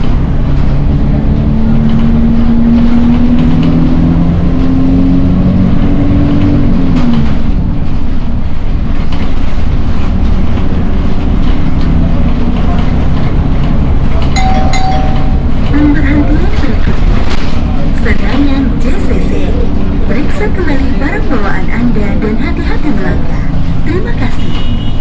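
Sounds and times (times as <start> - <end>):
bus engine rumble and whine: 0.0 - 25.0.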